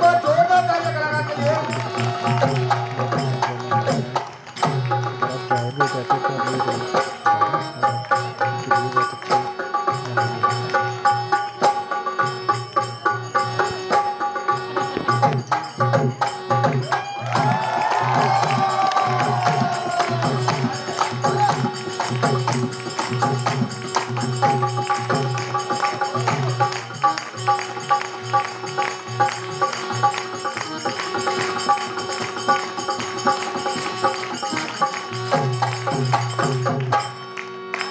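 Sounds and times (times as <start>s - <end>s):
dholak drum beating: 0.0s - 37.9s
harmonium notes: 0.0s - 37.9s
jingling percussion: 0.0s - 37.9s.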